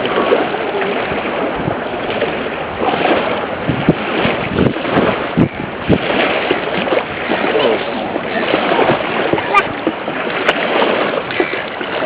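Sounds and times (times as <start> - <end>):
choppy water washing: 0.0 - 12.0
wind buffeting microphone: 0.0 - 12.0.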